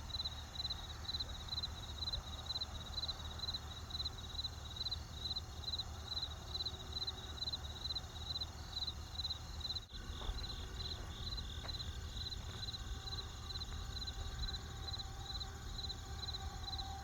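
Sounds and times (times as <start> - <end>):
campfire low rumble: 0.0 - 17.0
crickets chirping: 0.0 - 17.0.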